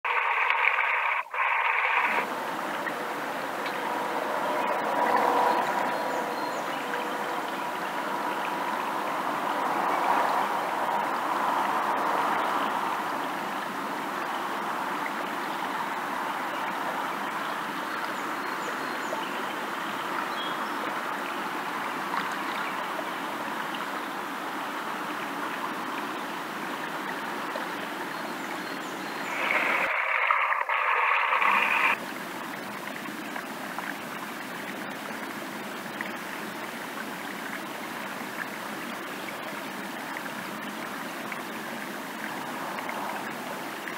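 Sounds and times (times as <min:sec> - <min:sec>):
water rushing down a ditch: 0:00.0 - 0:43.9.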